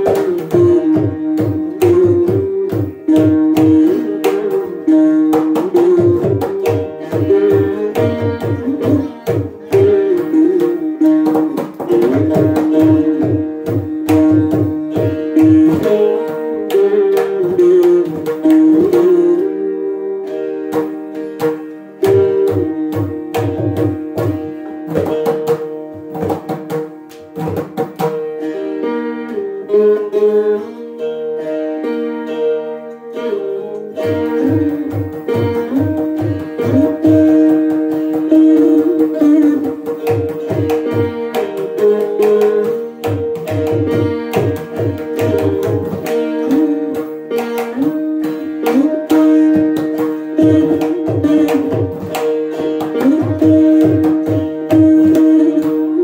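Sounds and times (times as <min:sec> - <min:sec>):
hand drum strokes: 0:00.0 - 0:19.5, 0:20.7 - 0:28.4, 0:33.9 - 0:56.0
plucked string instrument melody: 0:00.0 - 0:56.0.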